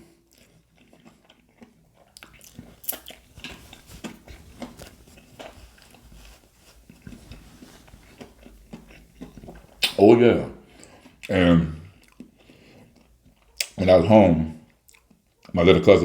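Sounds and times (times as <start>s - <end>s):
person chewing crispy food: 0.0s - 10.0s, 10.6s - 13.8s, 14.6s - 15.6s.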